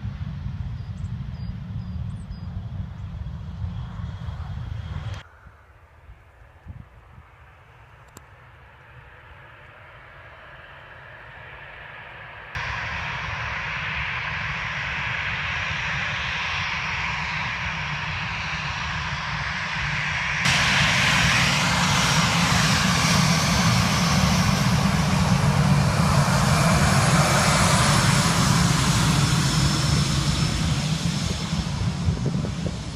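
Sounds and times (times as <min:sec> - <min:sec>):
airliner engines roaring: 0:00.0 - 0:32.9.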